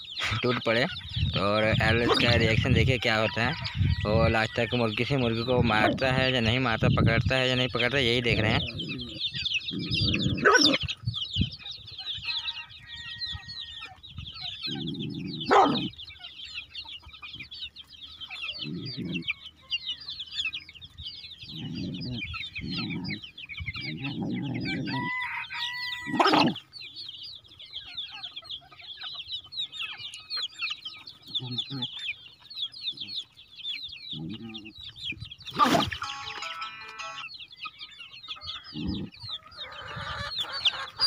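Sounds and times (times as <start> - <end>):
chicks peeping: 0.0 - 41.0
hens clucking: 0.0 - 41.0.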